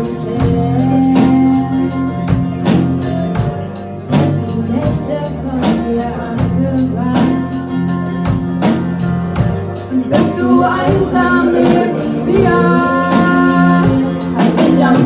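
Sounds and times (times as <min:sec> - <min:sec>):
pop-rock band playing a ballad: 0:00.0 - 0:15.0.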